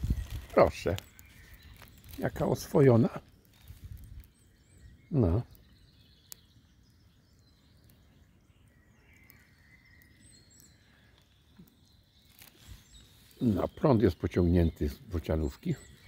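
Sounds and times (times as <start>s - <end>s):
distant birds chirping: 0.0s - 16.0s.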